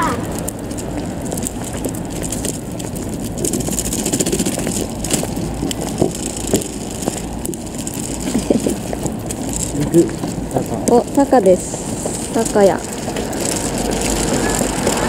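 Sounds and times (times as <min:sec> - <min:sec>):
stroller wheels rolling on stone: 0:00.0 - 0:15.0.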